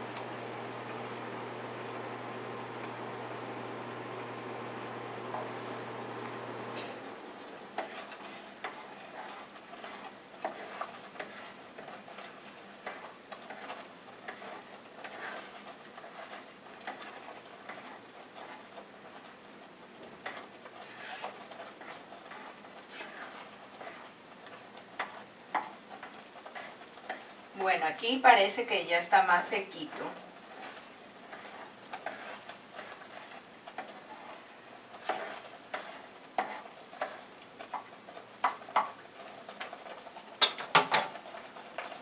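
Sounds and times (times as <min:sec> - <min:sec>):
spatula scraping a cooking pot: 0:00.6 - 0:42.0.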